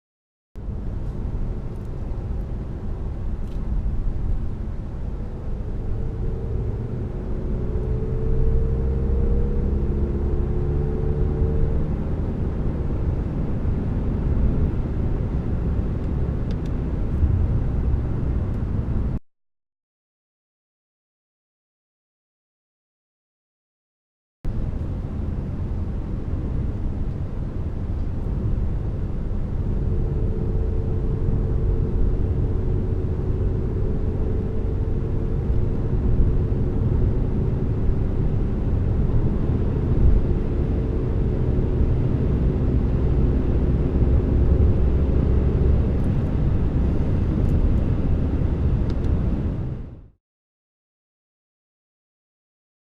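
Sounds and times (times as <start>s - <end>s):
diesel engine accelerating: 0.6s - 19.2s, 24.5s - 50.2s
road and wind noise: 0.6s - 19.2s, 24.4s - 50.2s.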